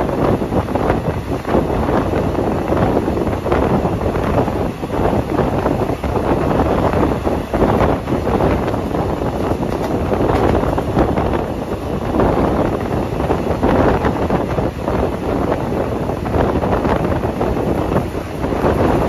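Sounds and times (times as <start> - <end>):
train wheels clattering on rails: 0.0 - 19.0
wind rushing over microphone: 0.0 - 19.0.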